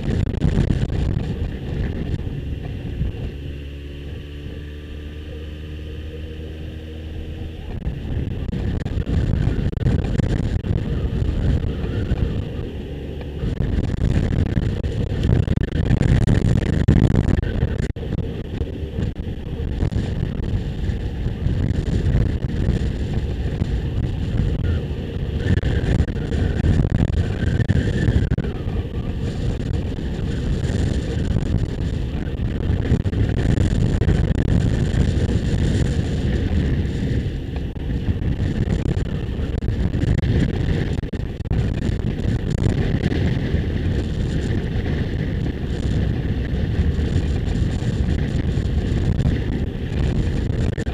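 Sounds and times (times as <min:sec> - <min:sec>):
motorcycle engine rumble: 0:00.0 - 0:50.9
wind buffeting microphone: 0:00.0 - 0:50.9.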